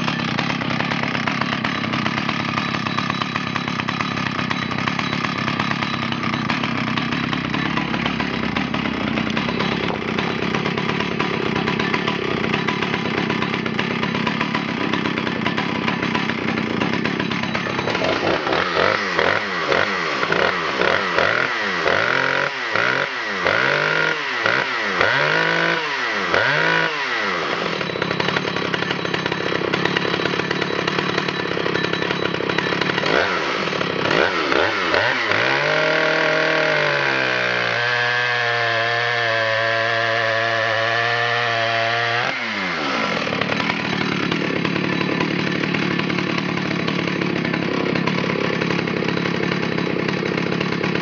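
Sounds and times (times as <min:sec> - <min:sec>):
chainsaw cutting log: 0:00.0 - 0:51.0.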